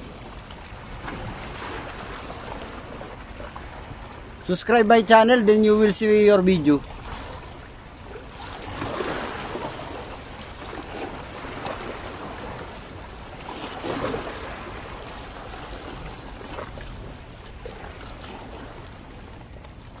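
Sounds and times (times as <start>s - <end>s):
sea waves washing against rocks: 0.0s - 19.0s.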